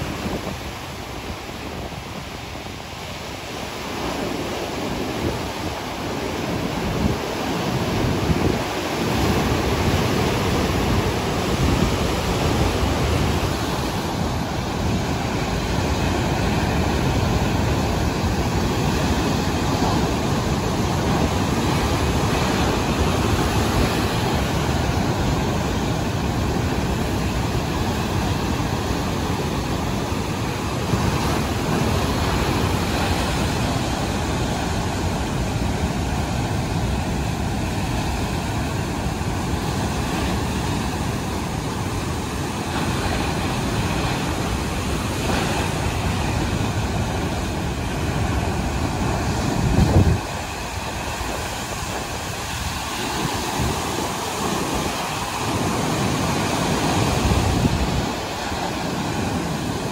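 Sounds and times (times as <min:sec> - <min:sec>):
sea surf breaking on rocks: 0:00.0 - 0:59.9.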